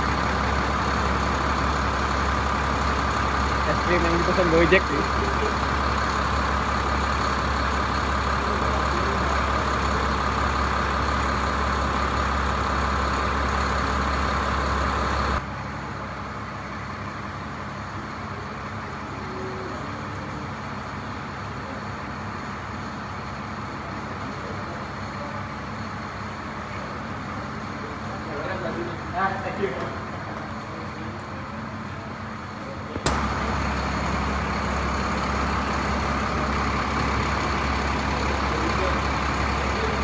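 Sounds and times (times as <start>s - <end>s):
large engine idling: 0.0s - 40.0s.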